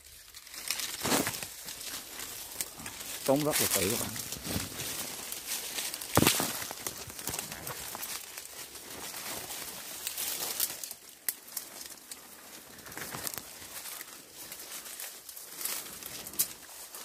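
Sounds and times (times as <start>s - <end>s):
leaves and twigs rustling: 0.0s - 17.0s
twigs snapping: 0.0s - 17.0s.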